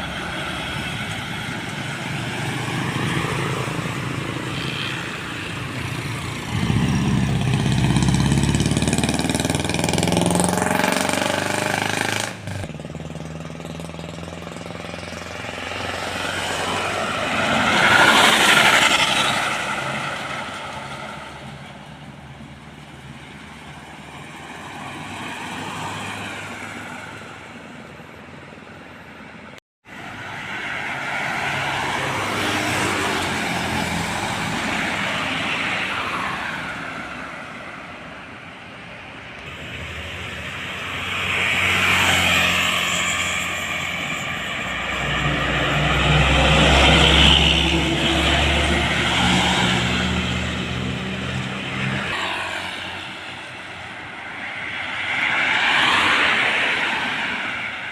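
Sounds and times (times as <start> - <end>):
heavy vehicle engine drone: 0.0 - 24.4, 26.4 - 55.3
road traffic passing: 0.0 - 57.9.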